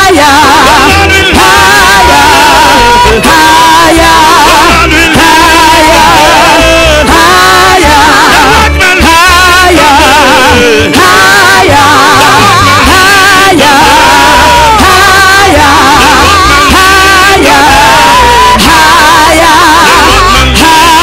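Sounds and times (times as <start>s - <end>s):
keyboard and bass: 0.0s - 21.0s
saxophones and trumpet melody: 0.0s - 21.0s.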